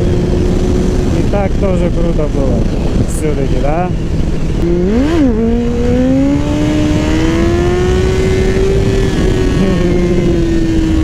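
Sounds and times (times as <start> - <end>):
motorcycle engine revving: 0.0 - 11.0
wind and road noise: 0.0 - 11.0.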